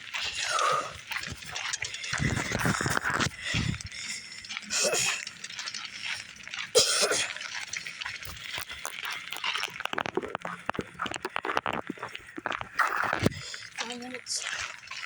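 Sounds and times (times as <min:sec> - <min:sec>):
bicycle rattling and clicking: 0:00.0 - 0:15.0.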